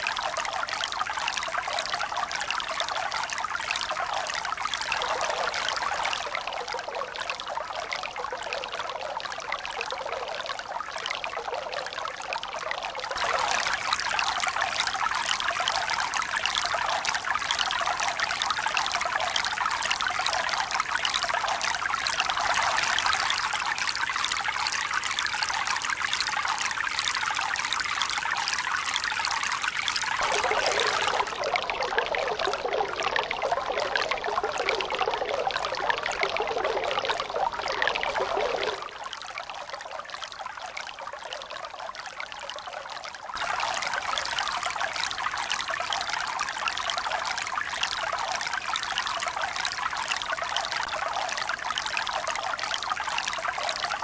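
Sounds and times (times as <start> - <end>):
running water trickling and pouring: 0.0 - 54.0.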